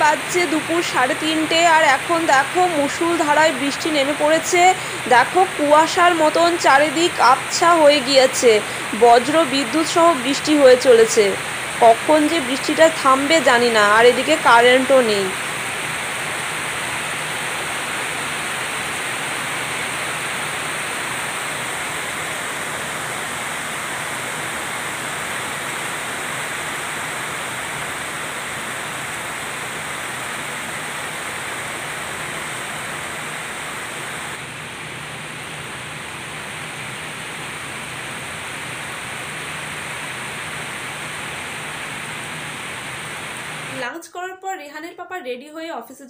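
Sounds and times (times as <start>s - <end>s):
heavy rain pouring: 0.0s - 43.8s.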